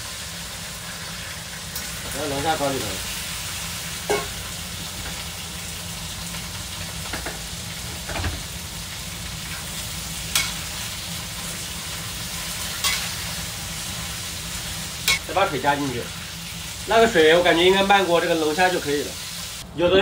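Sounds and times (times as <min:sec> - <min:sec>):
food sizzling in hot oil: 0:00.0 - 0:19.6.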